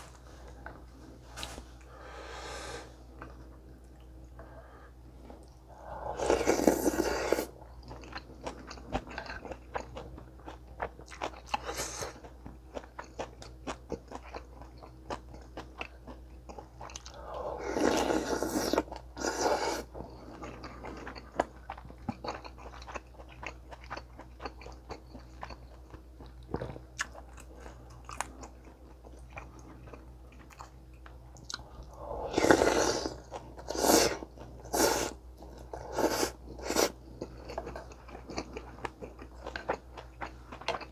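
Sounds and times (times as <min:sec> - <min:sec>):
chewing and crunching food: 0:05.1 - 0:40.9.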